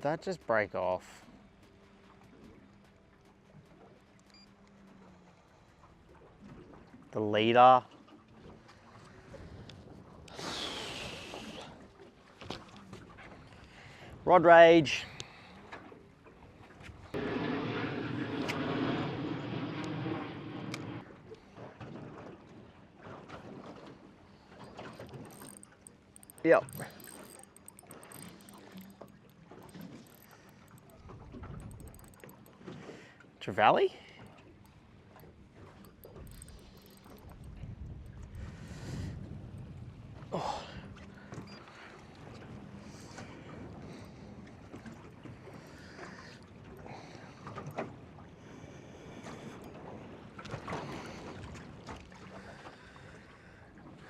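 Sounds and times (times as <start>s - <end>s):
water around a boat: 0.0s - 54.0s
wind: 0.0s - 54.0s.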